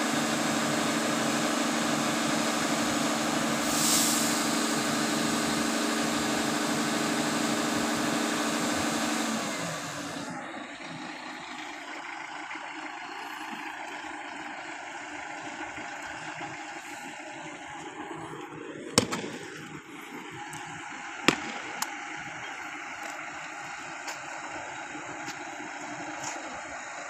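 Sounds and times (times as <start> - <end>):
concrete pump engine running: 0.0 - 27.0.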